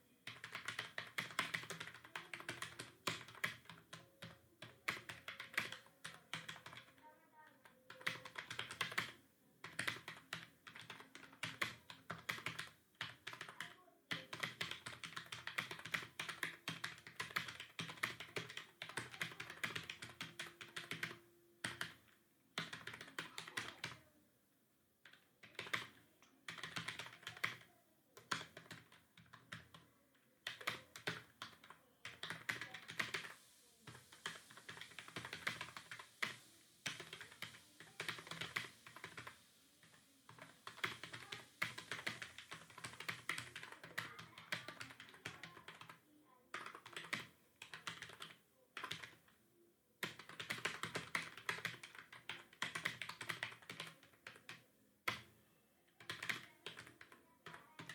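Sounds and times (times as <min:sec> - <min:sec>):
keyboard typing: 0:00.2 - 0:07.0, 0:07.7 - 0:24.1, 0:25.0 - 0:49.4, 0:50.0 - 0:55.3, 0:55.9 - 0:57.9.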